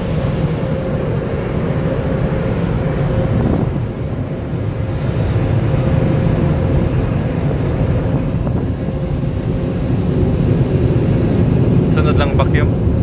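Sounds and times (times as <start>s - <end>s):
car wash water and machinery: 0.0s - 13.0s.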